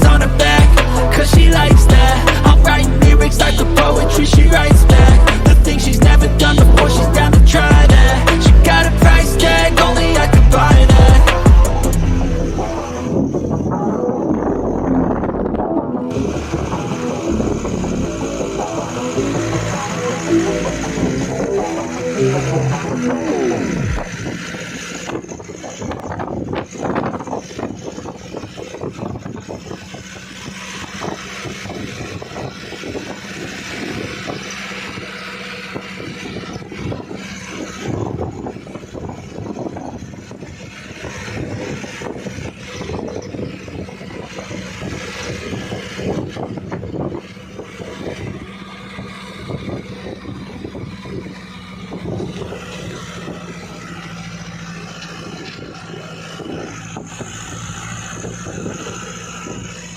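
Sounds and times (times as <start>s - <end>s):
engine hum: 0.0s - 59.9s
rough road noise: 0.0s - 59.9s
wind noise: 0.0s - 59.9s.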